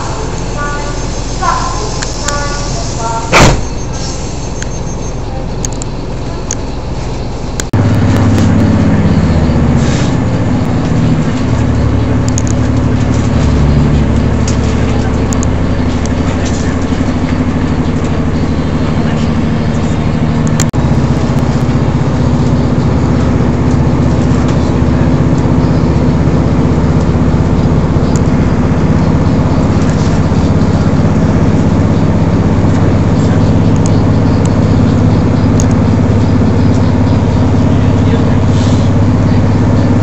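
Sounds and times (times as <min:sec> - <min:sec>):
diesel engine drone: 0:00.0 - 0:40.0
rumble of wheels on rail: 0:00.0 - 0:40.0.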